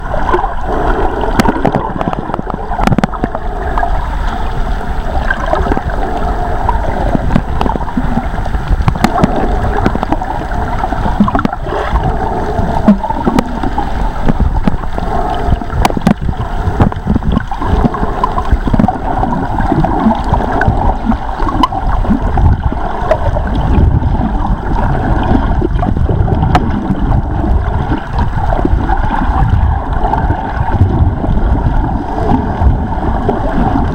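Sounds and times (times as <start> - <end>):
muffled underwater water rushing: 0.0 - 33.9.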